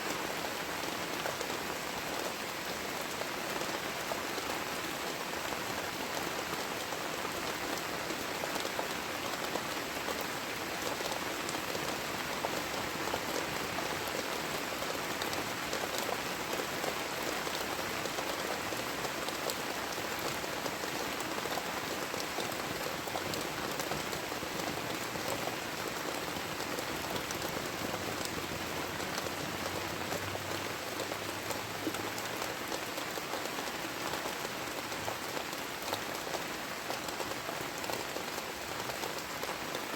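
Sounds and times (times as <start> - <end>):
heavy rain falling: 0.0 - 39.9
raindrops pattering nearby: 0.0 - 39.9.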